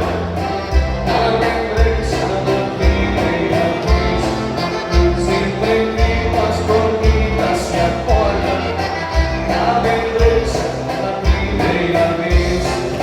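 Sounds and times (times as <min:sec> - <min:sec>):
bass thump: 0:00.0 - 0:13.0
music with singing: 0:00.0 - 0:13.0.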